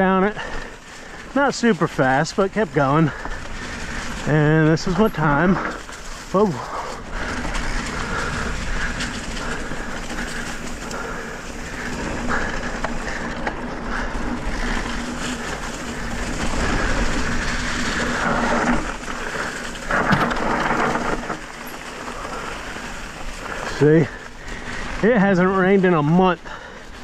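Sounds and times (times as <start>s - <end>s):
bike chattering over rough ground: 0.0s - 27.0s
tyres crunching through dry leaves: 0.0s - 27.0s.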